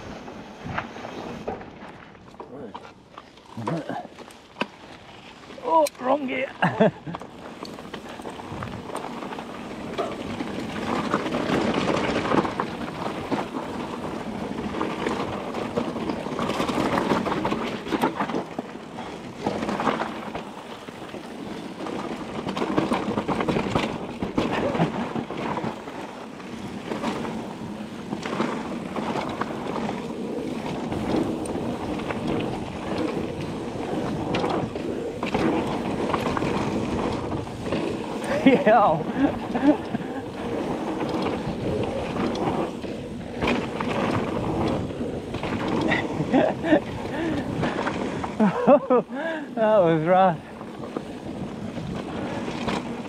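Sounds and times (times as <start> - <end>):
rushing of tyres and air: 0.0 - 53.0
bike knocks and rattles: 6.0 - 49.2, 50.0 - 53.0.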